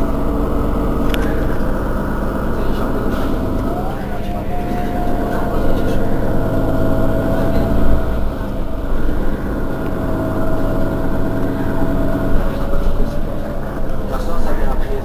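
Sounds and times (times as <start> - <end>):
bus engine idling: 0.0 - 15.0
thin steady whine: 0.0 - 15.0.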